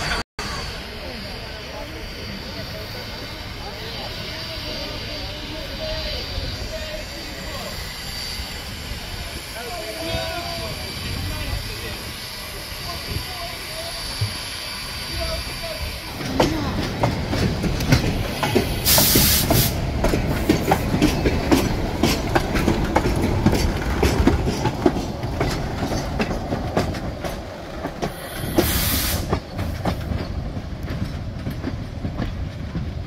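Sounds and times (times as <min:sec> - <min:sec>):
loud steam hiss: 0:00.0 - 0:26.1, 0:26.9 - 0:30.2
steam train rumbling: 0:00.0 - 0:33.0
wheels clicking and clanking on rails: 0:01.0 - 0:33.0.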